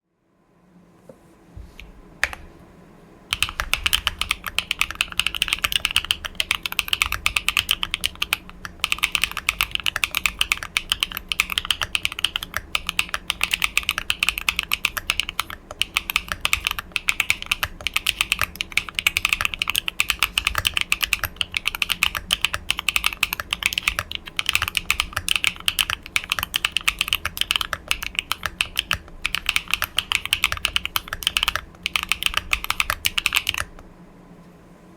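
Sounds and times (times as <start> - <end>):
mechanical keyboard typing: 2.2 - 2.5, 3.3 - 33.8.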